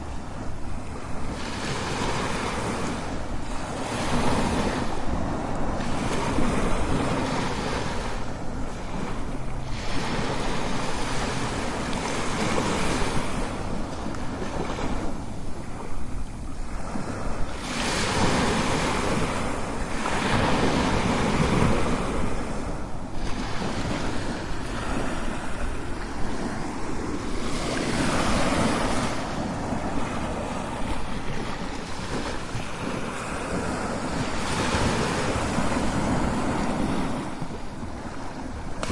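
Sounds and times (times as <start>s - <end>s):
ocean waves crashing: 0.0s - 38.9s
wind on microphone: 0.0s - 38.9s.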